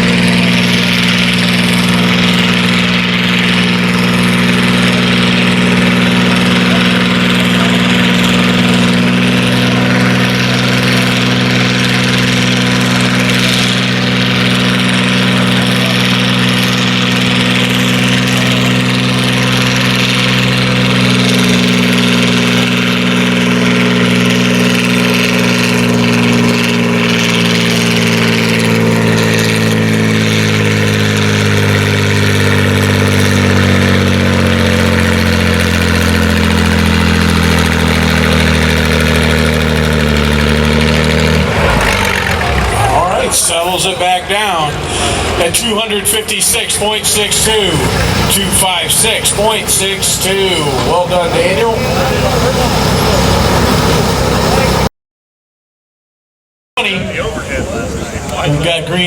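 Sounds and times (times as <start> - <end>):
diesel tractor engine under load: 0.0 - 54.9, 56.8 - 59.0.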